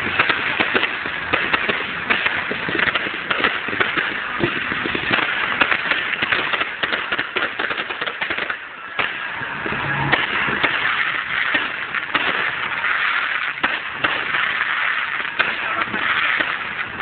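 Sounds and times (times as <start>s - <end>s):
crackles and pops: 0.0s - 17.0s
fireworks hissing: 0.0s - 17.0s.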